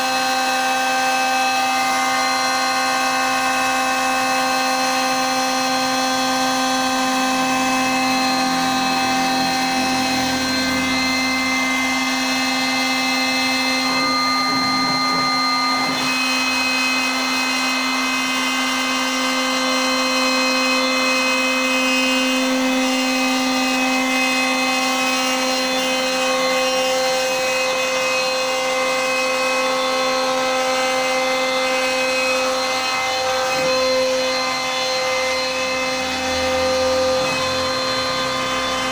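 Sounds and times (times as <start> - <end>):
router spindle high whine: 0.0 - 38.9.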